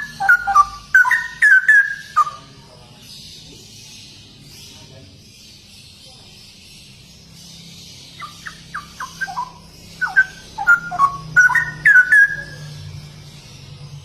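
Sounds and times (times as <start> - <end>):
bird singing whistled notes: 0.0 - 14.0.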